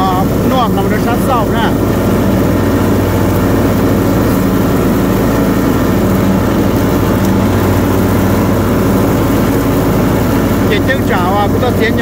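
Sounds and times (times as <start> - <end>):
lawn mower engine cutting grass: 0.0 - 12.0.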